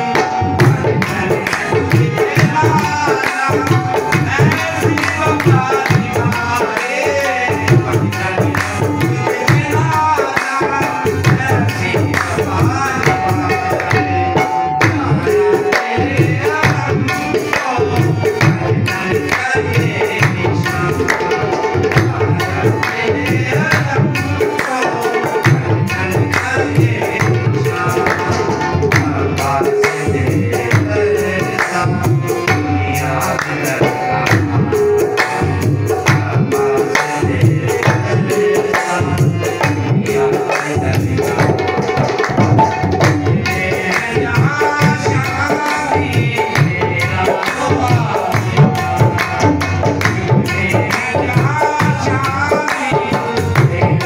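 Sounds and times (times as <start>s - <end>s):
harmonium notes: 0.0s - 54.0s
tabla strokes: 0.0s - 54.0s.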